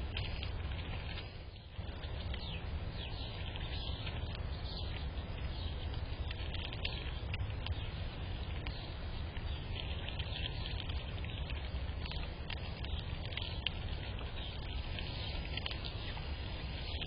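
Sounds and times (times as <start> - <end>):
steady low rumble: 0.0 - 17.0
small birds chirping: 1.3 - 17.0.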